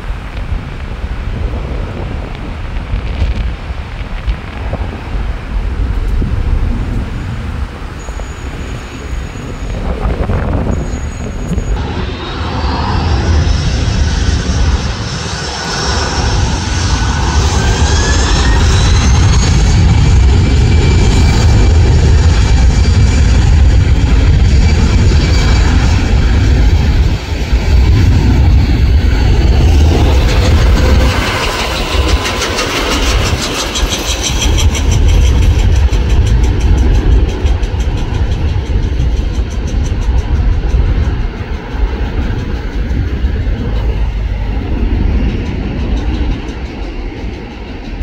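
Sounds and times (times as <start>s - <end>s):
jet engines spooling up and roaring: 0.0s - 48.0s
wind on microphone: 0.0s - 48.0s.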